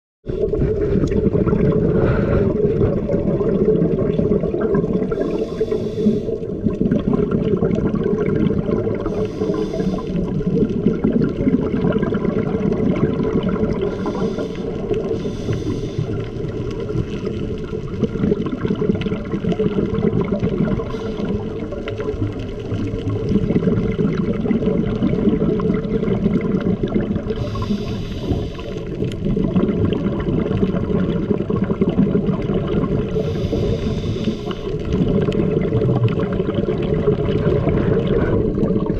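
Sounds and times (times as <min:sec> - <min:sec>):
underwater low rumble: 0:00.2 - 0:38.9
water bubbling: 0:00.3 - 0:38.9.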